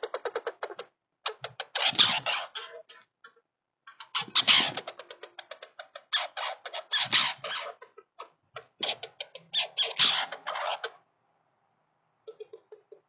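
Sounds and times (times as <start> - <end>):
squirrel chattering: 0.0 - 11.0, 12.3 - 13.0.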